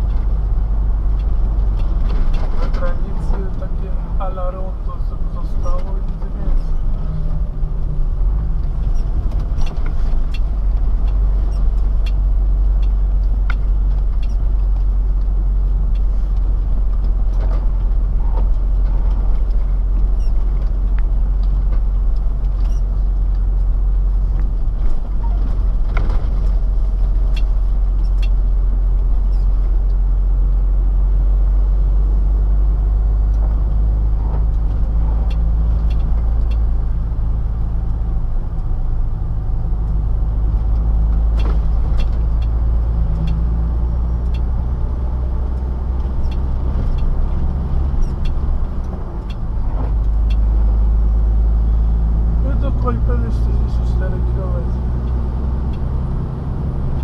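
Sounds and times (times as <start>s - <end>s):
truck engine drone: 0.0s - 57.0s
tyre and road noise: 0.0s - 57.0s.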